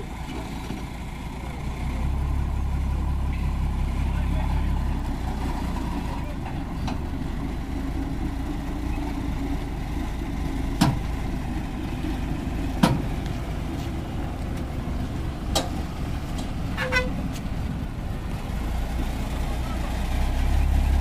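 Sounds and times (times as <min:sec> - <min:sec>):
diesel engine running at low speed: 0:00.0 - 0:21.0.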